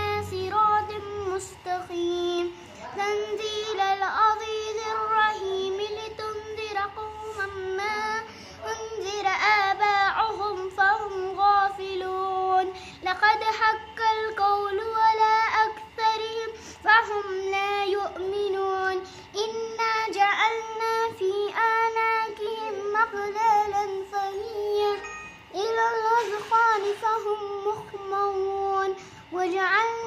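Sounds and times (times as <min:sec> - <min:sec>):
girl chanting recitation: 0:00.0 - 0:30.0.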